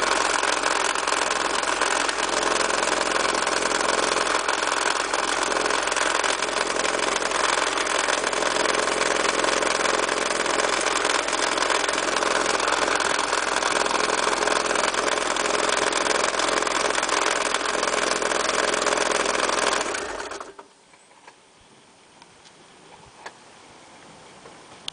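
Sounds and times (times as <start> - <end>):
car engine idling with knocking: 0.0 - 20.6.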